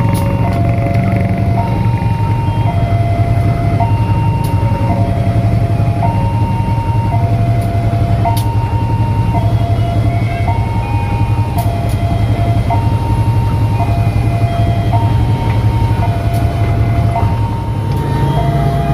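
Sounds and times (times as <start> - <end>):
level crossing two-tone alarm: 0.0 - 18.9
train rumbling: 0.0 - 18.9.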